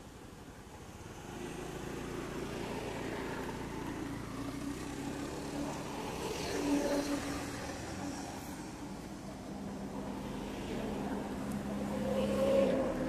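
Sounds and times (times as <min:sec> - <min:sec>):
vehicle engine hum passing: 0:00.0 - 0:13.0.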